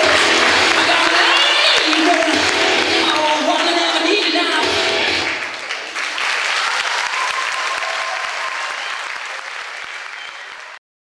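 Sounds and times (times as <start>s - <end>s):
audience applauding: 0.0s - 4.4s, 5.0s - 10.8s.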